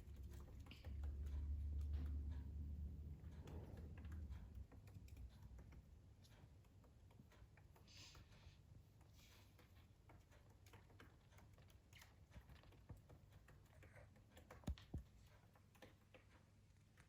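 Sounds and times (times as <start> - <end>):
faint ticks and taps: 0.0 - 17.0.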